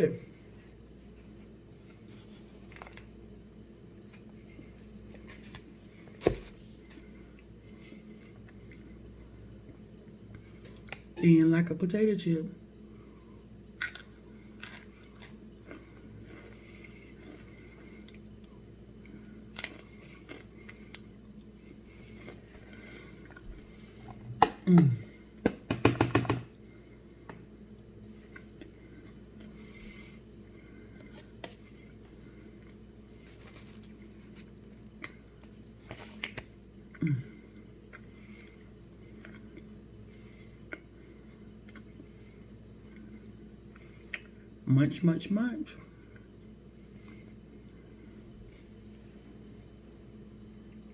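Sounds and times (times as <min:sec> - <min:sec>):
quiet chewing: 0:00.4 - 0:11.1, 0:12.6 - 0:25.4, 0:26.6 - 0:44.6, 0:45.8 - 0:50.9.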